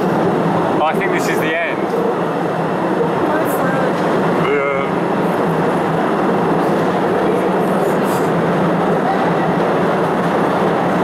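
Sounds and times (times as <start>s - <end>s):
steady low hum: 0.0s - 11.0s
train rumbling along track: 0.0s - 11.0s.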